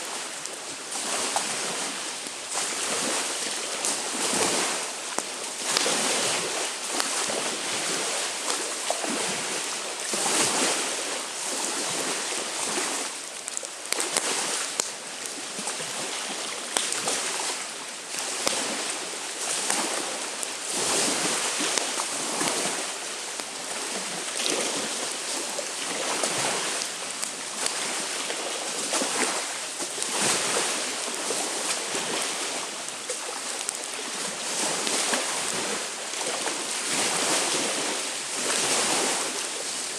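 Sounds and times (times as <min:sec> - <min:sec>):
campfire crackling: 0:00.0 - 0:39.9
waves washing onto shore: 0:00.0 - 0:39.9
wind: 0:00.0 - 0:39.9.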